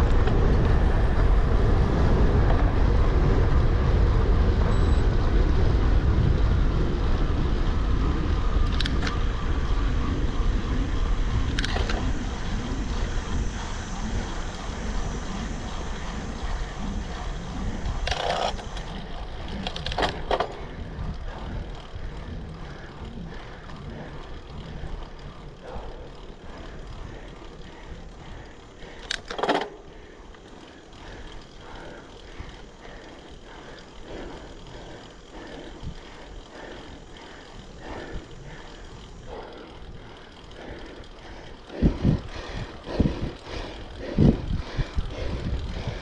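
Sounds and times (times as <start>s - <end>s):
bike tyre rumble: 0.0s - 46.0s
wind noise: 0.0s - 46.0s.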